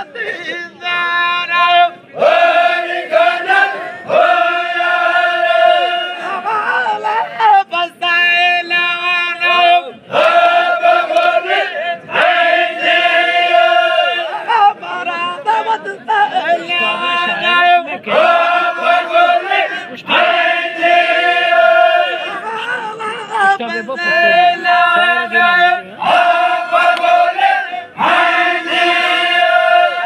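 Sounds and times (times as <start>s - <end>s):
men chanting in unison: 0.0s - 15.4s, 16.2s - 22.6s, 23.7s - 30.0s.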